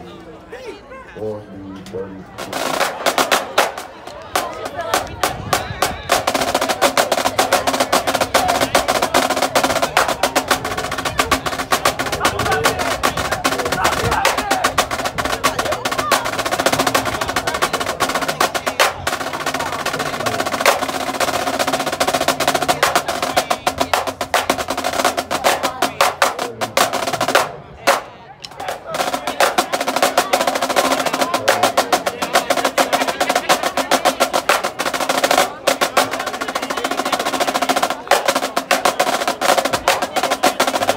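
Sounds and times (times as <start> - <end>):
marching snare drums: 2.4 - 40.9.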